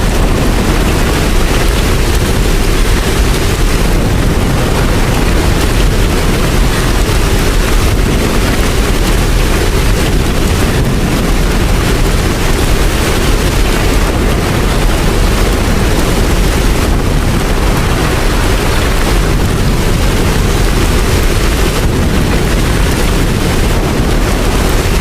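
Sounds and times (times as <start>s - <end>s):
deep low rumble: 0.0s - 25.0s
heavy rain: 0.0s - 25.0s.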